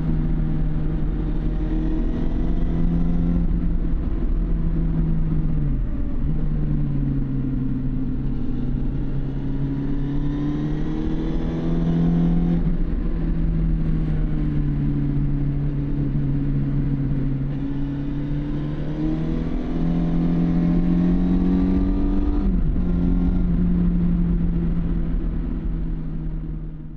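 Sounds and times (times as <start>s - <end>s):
motorcycle engine accelerating: 0.0s - 26.9s
wind and road rush: 0.0s - 26.9s.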